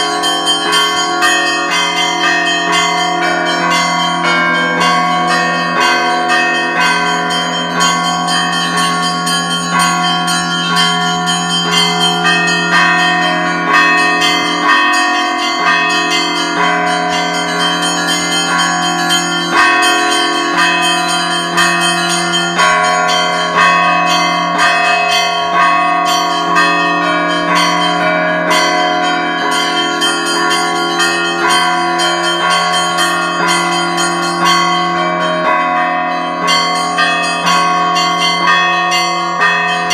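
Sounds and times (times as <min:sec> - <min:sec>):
church bells pealing: 0:00.0 - 0:39.9
deep low bell tone: 0:00.0 - 0:39.9.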